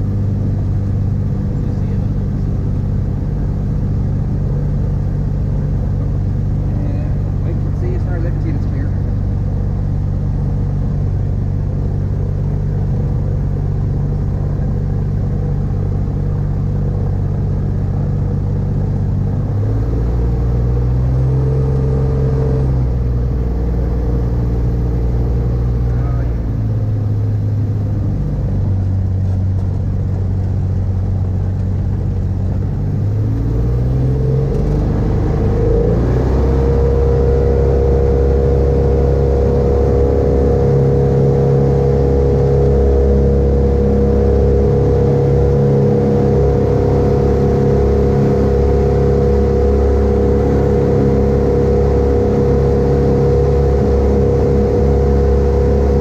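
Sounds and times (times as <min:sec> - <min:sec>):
microlight engine running: 0:00.0 - 0:56.0.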